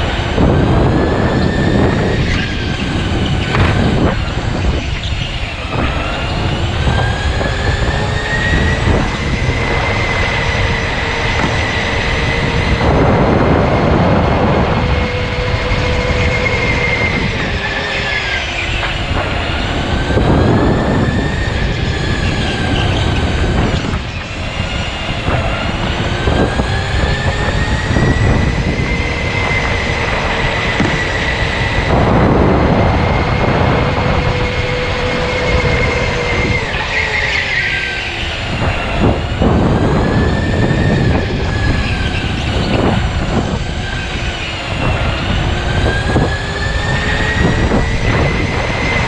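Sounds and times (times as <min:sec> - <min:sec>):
electric go-kart motor whining: 0:00.0 - 0:49.0
rushes of broad noise: 0:00.0 - 0:49.0.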